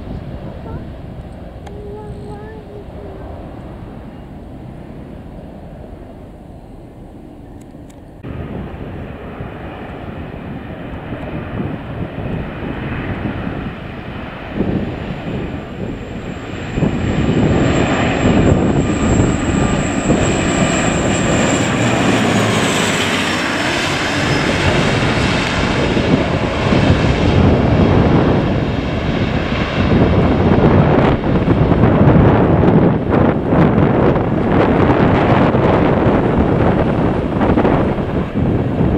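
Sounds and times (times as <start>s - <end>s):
jet airliner passing overhead: 0.0s - 38.9s
thin high engine whine: 0.0s - 38.9s.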